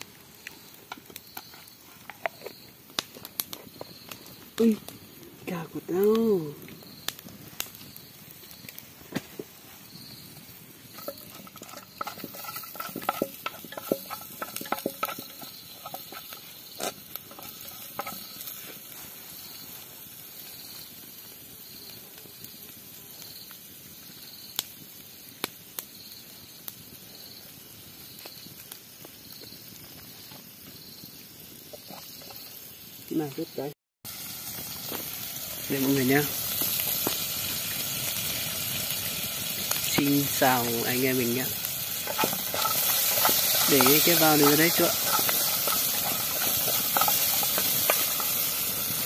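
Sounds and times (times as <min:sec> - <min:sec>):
food sizzling in a pan: 0:00.0 - 0:49.0
sharp crackles: 0:00.0 - 0:49.0.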